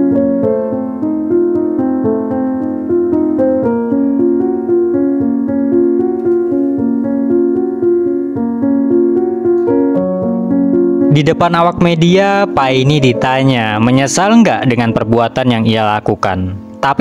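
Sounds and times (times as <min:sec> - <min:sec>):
calm piano melody: 0:00.0 - 0:17.0.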